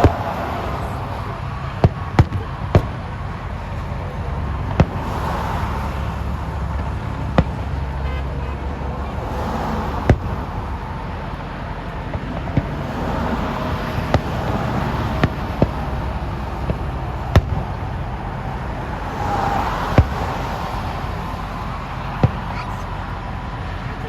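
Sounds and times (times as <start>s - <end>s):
fireworks bursting: 0.0s - 23.4s
steady background noise: 0.0s - 24.0s.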